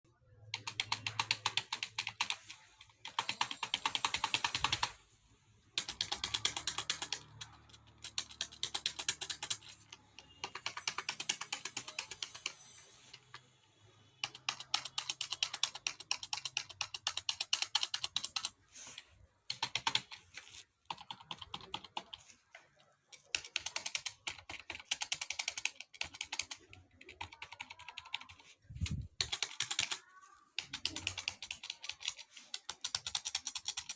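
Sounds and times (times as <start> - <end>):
keyboard typing clicks: 0.4 - 5.0, 5.8 - 13.4, 14.2 - 18.6, 19.5 - 20.2, 23.2 - 30.0, 30.6 - 33.9.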